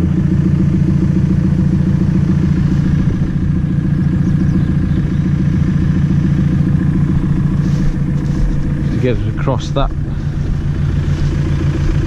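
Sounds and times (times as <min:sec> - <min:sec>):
farm machine engine idling: 0:00.0 - 0:12.0.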